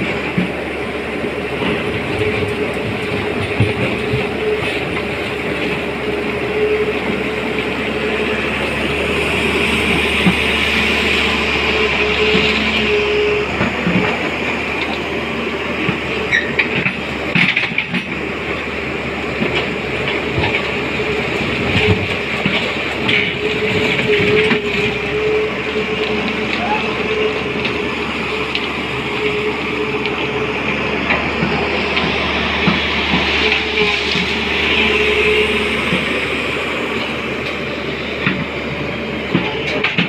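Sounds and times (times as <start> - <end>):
engine whine: 0.0 - 40.0
excavator diesel engine running: 0.0 - 40.0.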